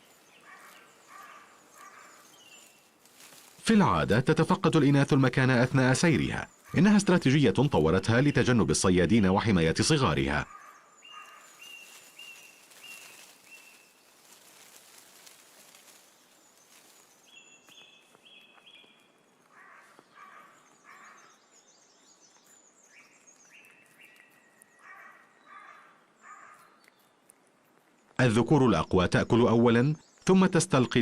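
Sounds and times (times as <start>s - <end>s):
small birds calling: 0.0s - 31.0s.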